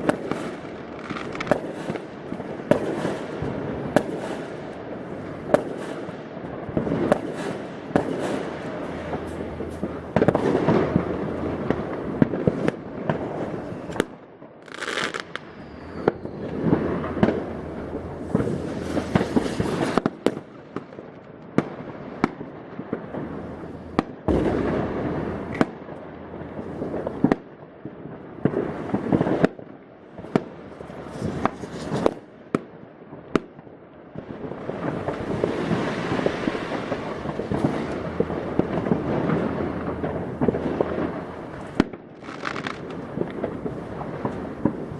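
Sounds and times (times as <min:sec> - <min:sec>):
firecrackers crackling: 0:00.0 - 0:44.9
firework bangs: 0:00.0 - 0:44.9.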